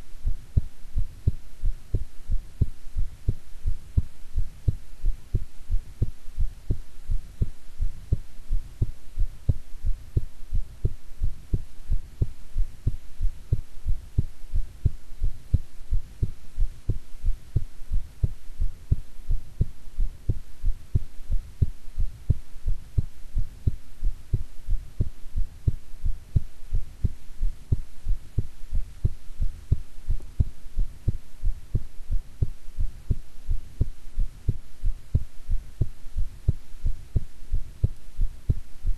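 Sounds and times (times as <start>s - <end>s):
faint steady hum: 0.0s - 38.9s
heartbeat: 0.0s - 38.9s.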